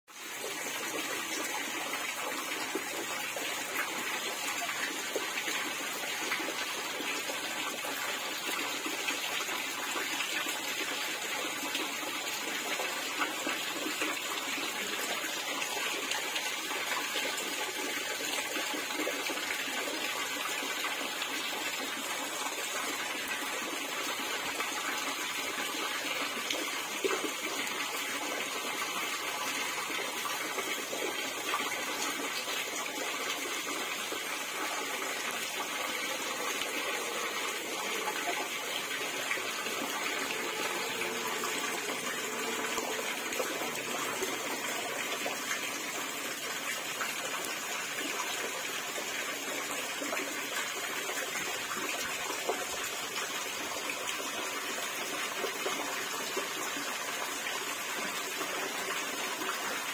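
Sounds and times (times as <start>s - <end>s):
running water rushing: 0.1s - 59.9s.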